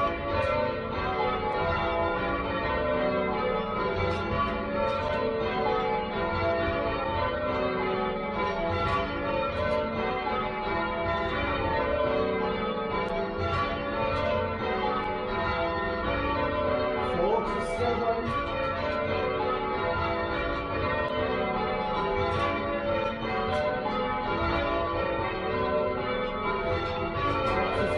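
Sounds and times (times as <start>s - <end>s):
tower bells ringing: 0.0s - 27.9s.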